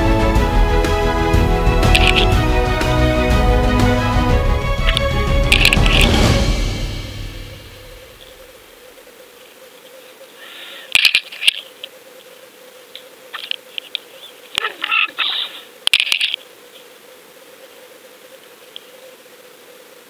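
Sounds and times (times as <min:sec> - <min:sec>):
crackling bursts: 0:00.0 - 0:16.8.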